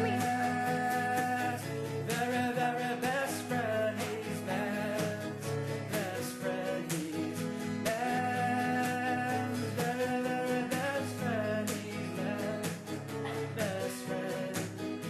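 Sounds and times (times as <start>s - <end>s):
song with guitar and beat: 0.0s - 15.0s.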